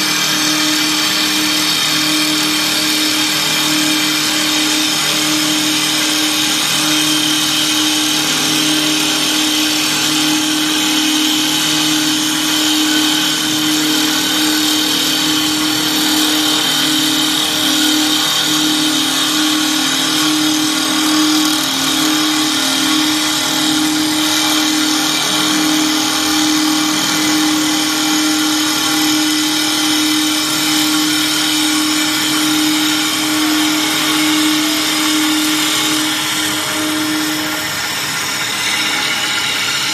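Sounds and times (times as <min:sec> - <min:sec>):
wood lathe machine drone: 0:00.0 - 0:39.9.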